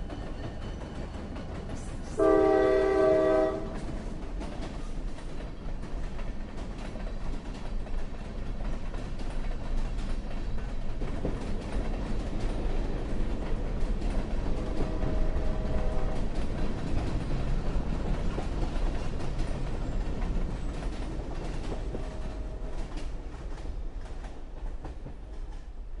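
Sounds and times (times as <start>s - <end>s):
wheels clacking over rail joints: 0.0s - 25.8s
train rumbling past: 0.0s - 26.0s.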